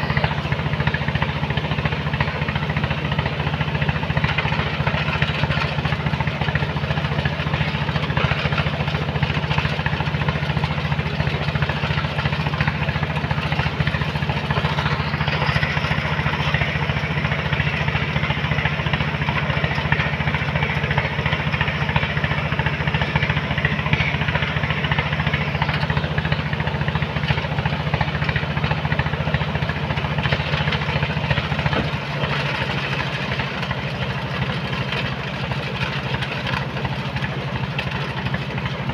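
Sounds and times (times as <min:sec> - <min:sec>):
loader engine running: 0:00.0 - 0:38.9.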